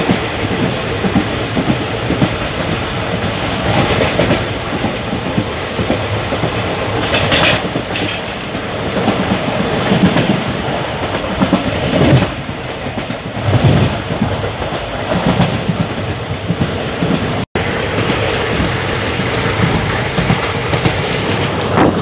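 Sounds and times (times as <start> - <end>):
train wheels clattering over track: 0.0 - 22.0.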